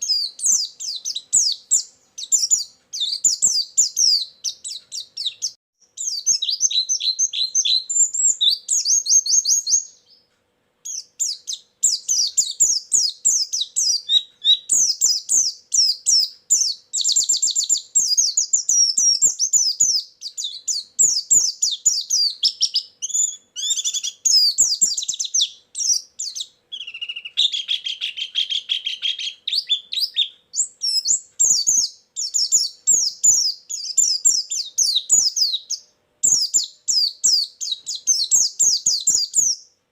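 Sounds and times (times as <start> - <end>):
bird twittering and chirping: 0.0 - 39.7.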